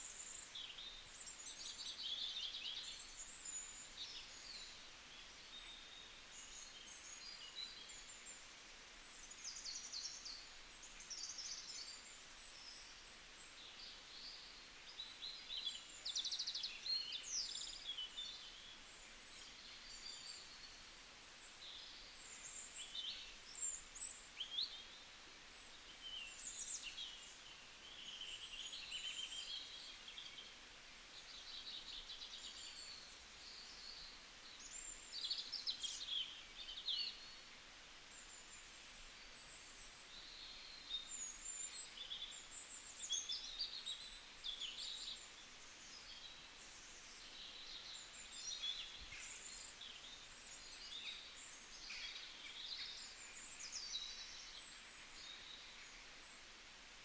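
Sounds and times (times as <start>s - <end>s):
faint forest hiss: 0.0s - 57.0s
songbirds chirping and trilling: 0.0s - 57.0s.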